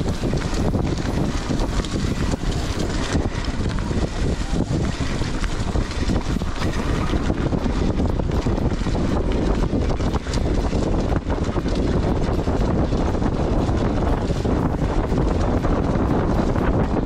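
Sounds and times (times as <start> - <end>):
bike tyres rolling on dirt: 0.0 - 17.0
wind buffeting microphone: 0.0 - 17.0.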